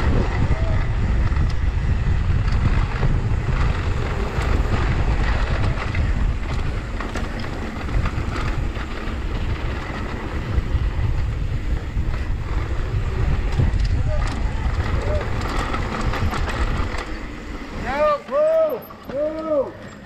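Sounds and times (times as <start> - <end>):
wind buffeting microphone: 0.0 - 19.7
bike clicks and rattles: 0.0 - 20.0
tyres rolling over loose dirt: 0.0 - 20.0.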